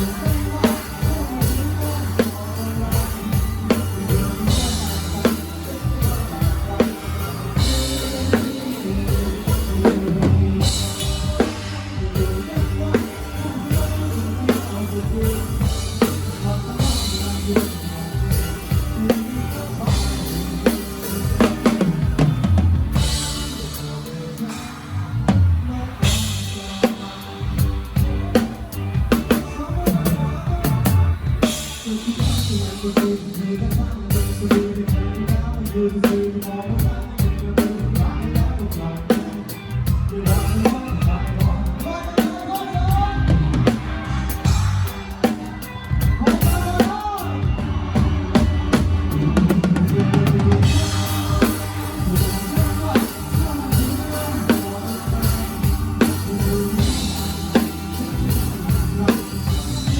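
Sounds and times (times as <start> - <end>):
live band music: 0.0 - 59.9.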